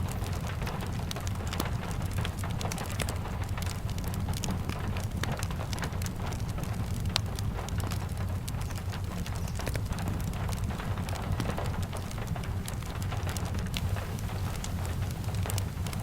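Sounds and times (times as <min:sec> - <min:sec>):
steady rain: 0:00.0 - 0:16.0
wood fire crackling: 0:00.0 - 0:16.0.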